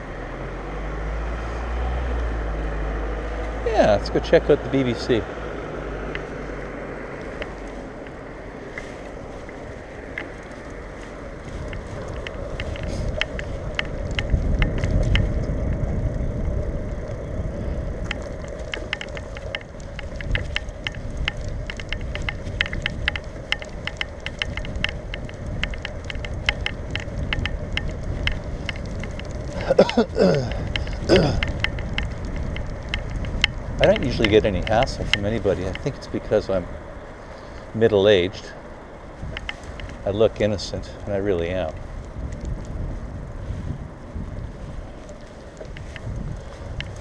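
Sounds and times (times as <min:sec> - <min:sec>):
wind and tyre rumble: 0:00.0 - 0:47.0
bike rattling clicks: 0:02.1 - 0:47.0.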